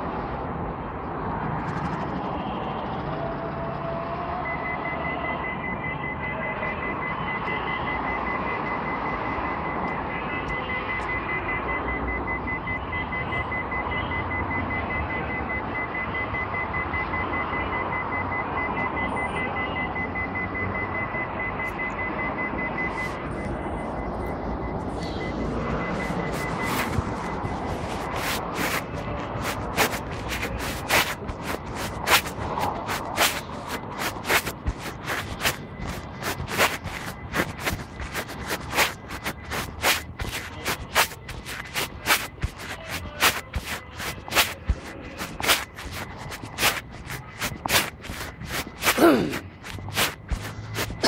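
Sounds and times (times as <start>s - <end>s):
high electronic beeps: 4.5s - 51.0s.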